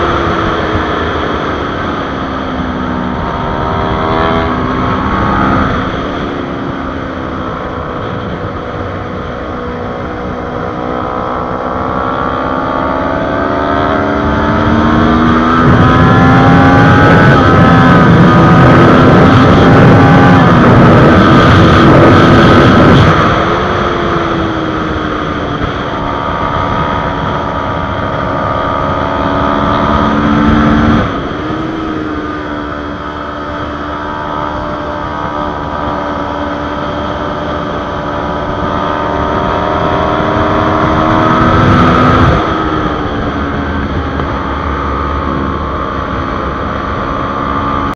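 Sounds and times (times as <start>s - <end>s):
motorcycle engine revving: 0.0s - 47.9s
wind noise: 0.0s - 47.9s.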